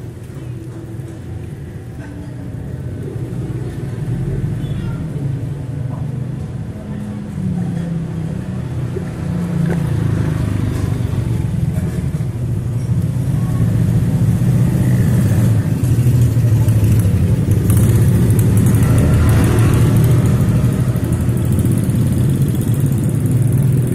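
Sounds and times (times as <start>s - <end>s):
motorcycle engines rumbling: 0.0s - 23.9s.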